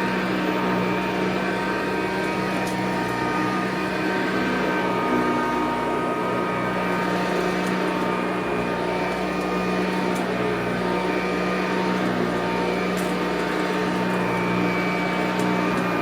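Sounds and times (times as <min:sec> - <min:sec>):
upright vacuum running: 0:00.0 - 0:16.0.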